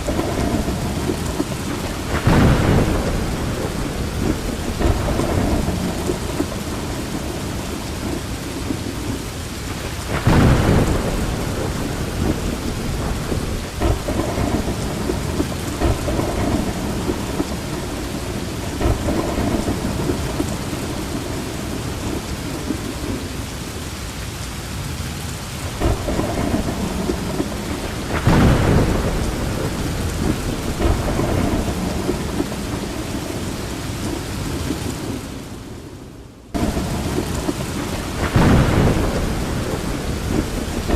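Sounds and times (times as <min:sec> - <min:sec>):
loud thunderclaps: 0:00.0 - 0:23.4, 0:25.6 - 0:40.9
low rolling thunder: 0:00.0 - 0:23.5, 0:24.8 - 0:40.9
heavy rain: 0:00.0 - 0:40.9.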